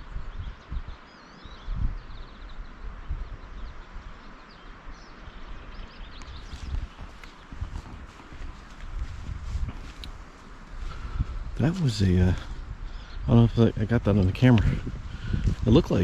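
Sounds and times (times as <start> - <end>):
small birds chirping: 0.0 - 16.0
steady outdoor hiss: 0.0 - 16.0.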